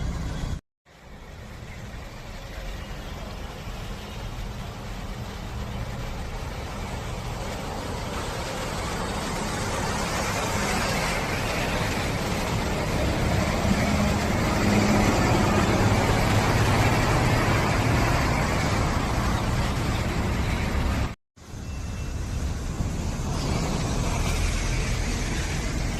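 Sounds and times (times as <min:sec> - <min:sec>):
heavy vehicle engine: 0:00.0 - 0:25.9
road noise: 0:00.0 - 0:25.9.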